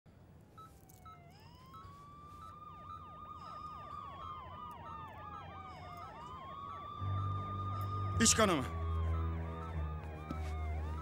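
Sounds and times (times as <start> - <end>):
wailing ambulance siren: 0.6 - 11.0
yelping siren: 0.6 - 11.0.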